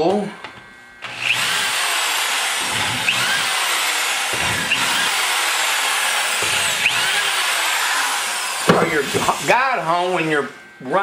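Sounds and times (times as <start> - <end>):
rotary tool whining: 0.4 - 11.0.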